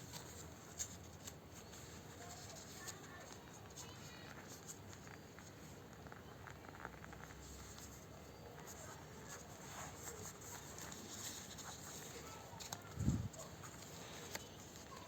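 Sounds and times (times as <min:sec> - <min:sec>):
paper being folded: 0:00.0 - 0:15.0.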